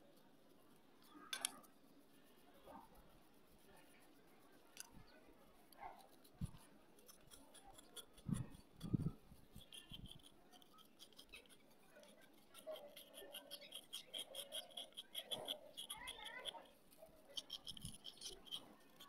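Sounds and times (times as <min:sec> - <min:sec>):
knife scraping dried clay: 0:00.1 - 0:19.0.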